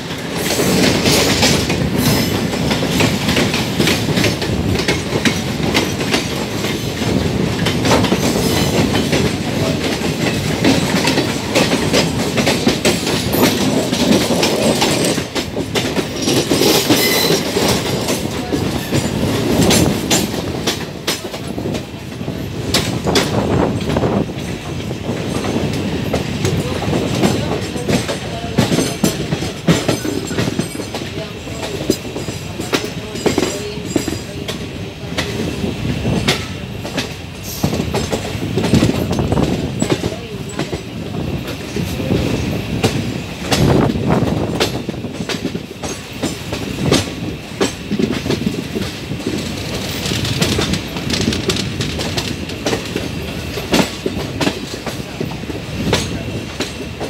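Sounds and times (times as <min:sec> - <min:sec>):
train rumble: 0:00.0 - 0:57.0
train wheels clattering over rail joints: 0:00.0 - 0:57.0.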